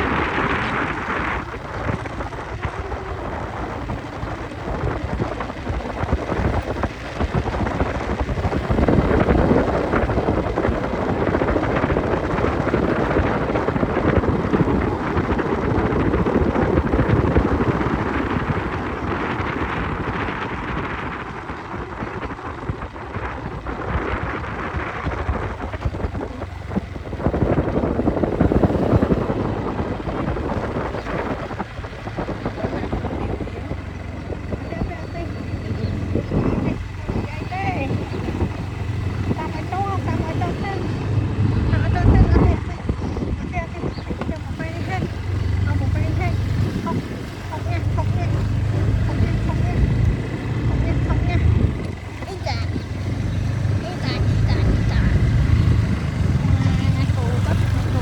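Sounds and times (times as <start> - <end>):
motorcycle running: 0.0 - 58.0
road noise: 0.0 - 58.0
wind rumbling on microphone: 0.0 - 58.0.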